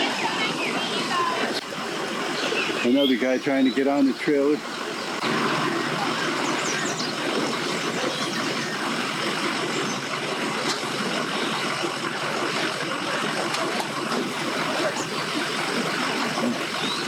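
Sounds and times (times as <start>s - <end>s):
outboard motor running: 0.0s - 17.0s
water churning: 0.0s - 17.0s.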